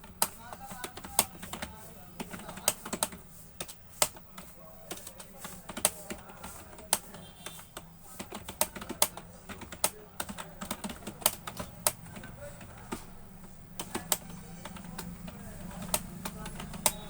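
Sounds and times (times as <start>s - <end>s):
keyboard typing clicks: 0.0s - 17.0s.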